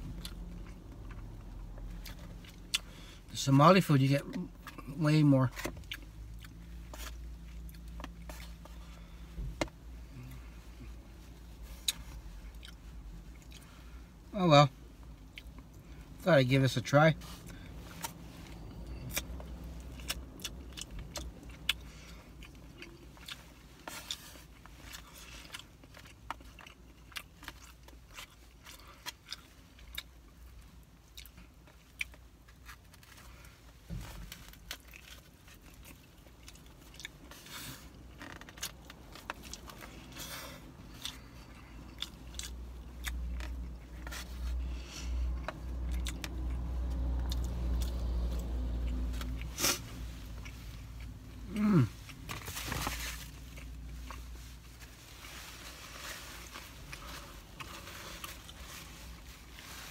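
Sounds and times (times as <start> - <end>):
person chewing: 0.0 - 3.3, 5.6 - 11.0, 11.6 - 14.0, 17.4 - 33.5, 34.2 - 59.9.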